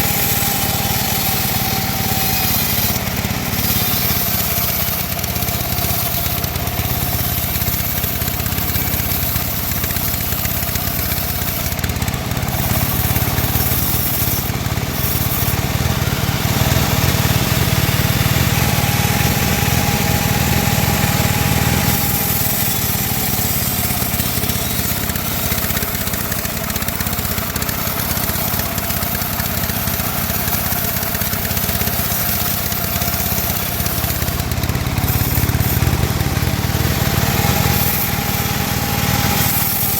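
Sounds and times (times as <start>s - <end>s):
band saw cutting timber: 0.0s - 39.9s.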